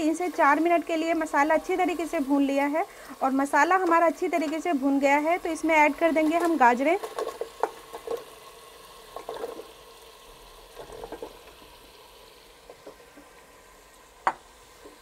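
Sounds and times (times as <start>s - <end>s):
oil sizzling in a pot: 0.0s - 15.0s.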